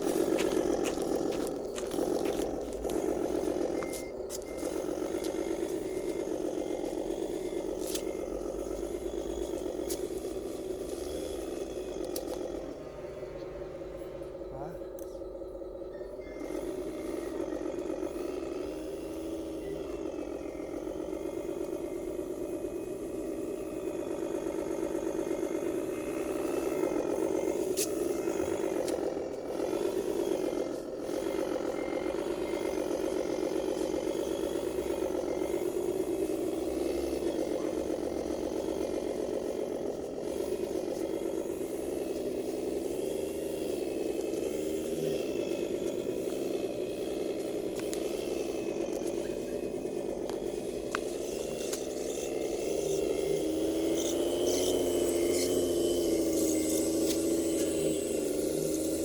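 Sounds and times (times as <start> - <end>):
rattling and scraping: 0.0 - 12.8, 16.4 - 59.0
toy truck drivetrain hum: 0.0 - 59.0.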